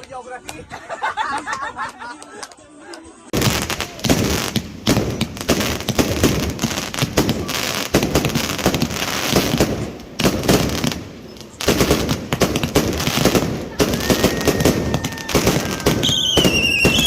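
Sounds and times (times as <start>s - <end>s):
fireworks crackling: 3.3s - 17.0s.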